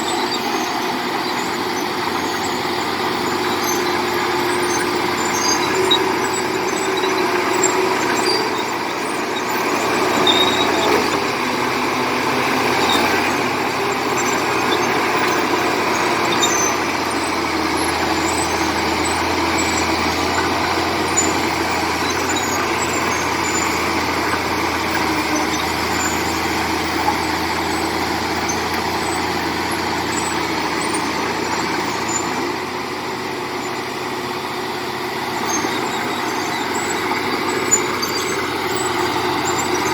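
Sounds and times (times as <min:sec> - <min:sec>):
high-pitched squeaks: 0:00.0 - 0:32.6, 0:35.2 - 0:39.9
bulldozer diesel engine running: 0:00.0 - 0:39.9.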